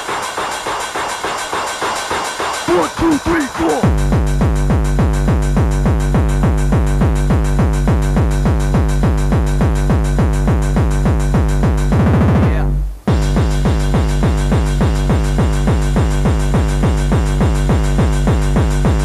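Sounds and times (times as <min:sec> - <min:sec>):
distorted kick drum beat: 0:00.0 - 0:19.0.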